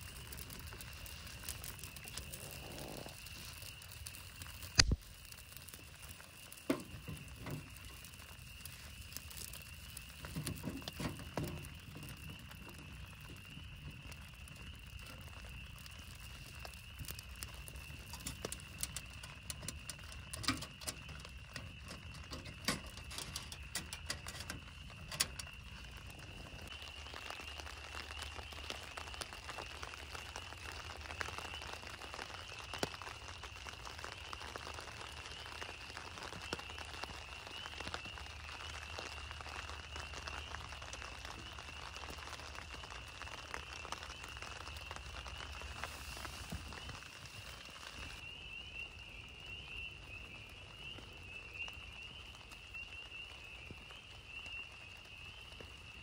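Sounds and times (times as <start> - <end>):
firewood crackling and popping: 0.0 - 56.0
rain pattering on plastic: 0.0 - 56.0.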